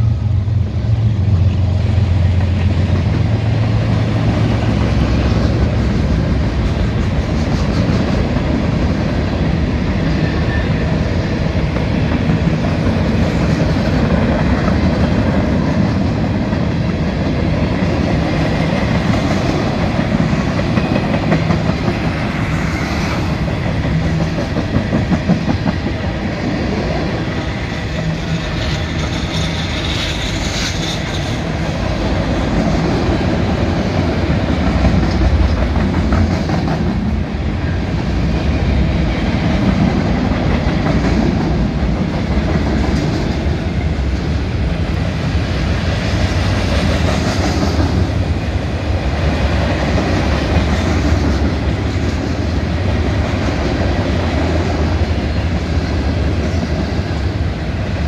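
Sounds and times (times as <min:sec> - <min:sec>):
train wheels clacking on rails: 0:00.0 - 0:58.0.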